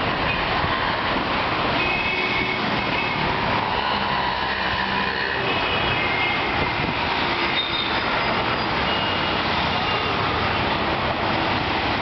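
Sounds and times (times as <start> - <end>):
dense road traffic: 0.0 - 12.0.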